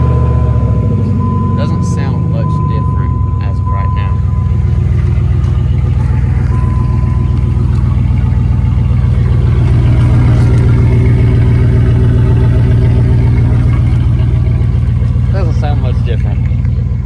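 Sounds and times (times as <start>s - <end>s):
truck engine exhaust drone: 0.0s - 17.0s.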